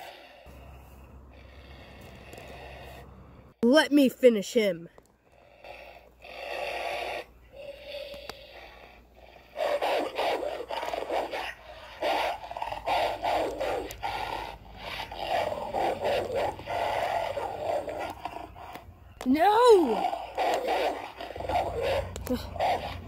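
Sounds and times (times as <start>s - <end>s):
growling and snarling: 1.3s - 3.4s, 5.3s - 23.0s.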